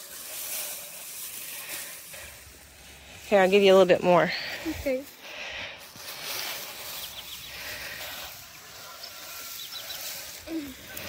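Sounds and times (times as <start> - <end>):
dry hay rustling and crunching: 0.0 - 11.0
footsteps on hay: 0.0 - 11.0.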